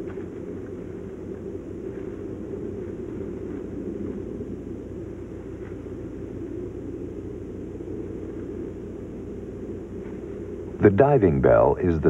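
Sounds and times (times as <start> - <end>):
low rumbling: 0.0 - 12.0.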